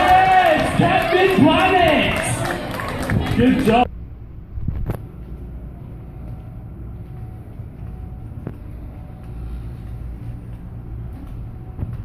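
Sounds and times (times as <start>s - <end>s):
low rumble inside ship: 0.0s - 12.0s.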